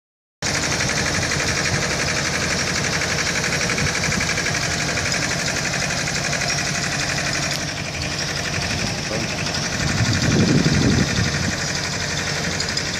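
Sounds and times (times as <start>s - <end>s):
drill rig engine drone: 0.4s - 12.9s
fast even rattle: 0.4s - 12.9s.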